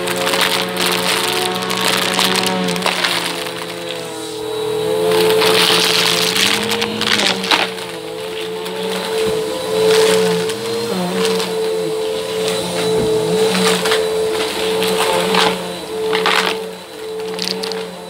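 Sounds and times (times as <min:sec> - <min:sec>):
beans clattering through vacuum: 0:00.0 - 0:04.2, 0:05.2 - 0:18.0
vacuum cleaner motor hum: 0:00.0 - 0:18.0.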